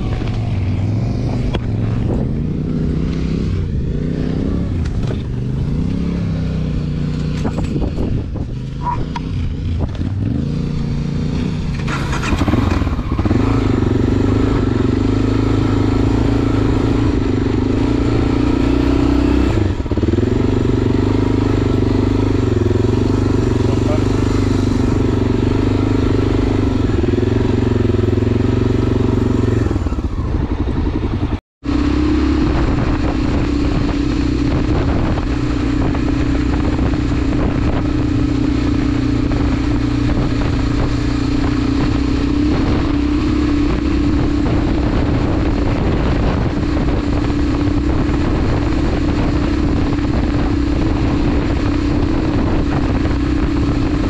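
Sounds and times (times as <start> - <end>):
motorcycle engine running: 0.0 - 54.0
wind and riding noise: 0.0 - 54.0.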